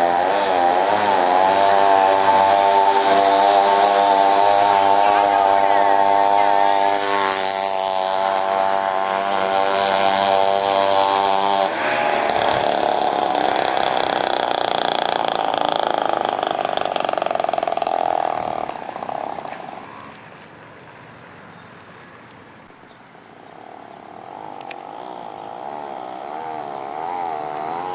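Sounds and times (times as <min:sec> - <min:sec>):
chainsaw engine: 0:00.0 - 0:20.2, 0:24.1 - 0:27.9
two-stroke scooter engines revving: 0:00.0 - 0:20.3, 0:23.6 - 0:27.9
weedeater engine: 0:00.0 - 0:20.4, 0:23.6 - 0:27.9.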